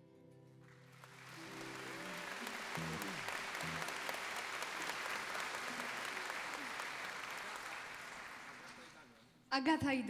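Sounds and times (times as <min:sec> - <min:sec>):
audience applause: 0:00.6 - 0:09.2.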